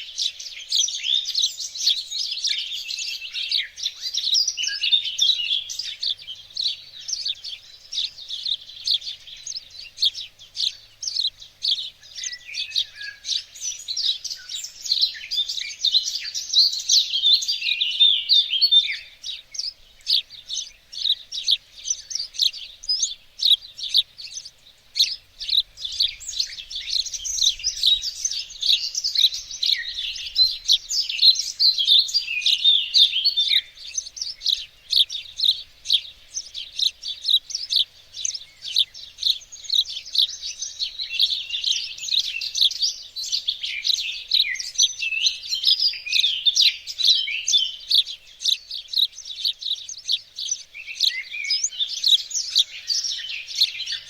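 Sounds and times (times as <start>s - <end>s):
songbirds chorus: 0.0s - 54.0s.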